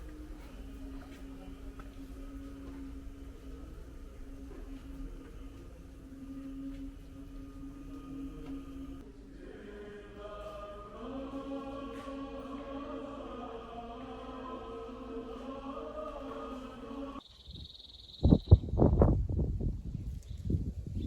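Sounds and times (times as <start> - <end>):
choral chanting: 0.0 - 17.2
steady low drone: 0.0 - 17.2.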